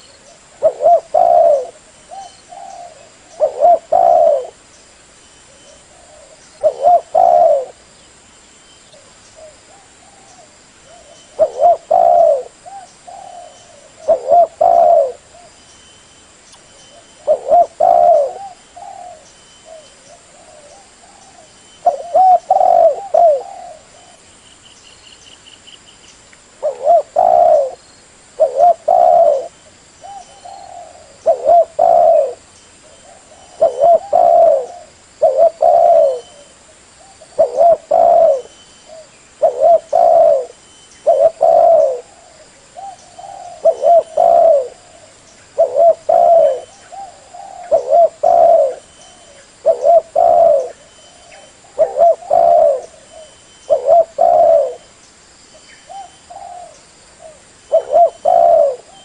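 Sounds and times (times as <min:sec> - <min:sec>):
dove cooing: 0:00.0 - 0:04.6, 0:05.5 - 0:07.8, 0:09.4 - 0:15.6, 0:16.9 - 0:24.2, 0:26.6 - 0:27.8, 0:28.4 - 0:55.0, 0:55.8 - 0:59.0.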